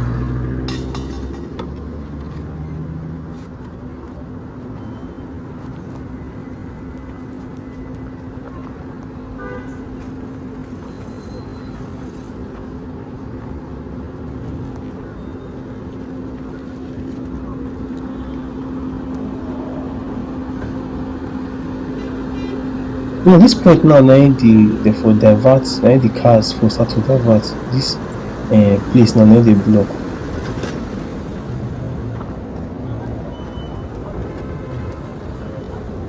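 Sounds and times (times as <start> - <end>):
slow road traffic: 0.0 - 36.0.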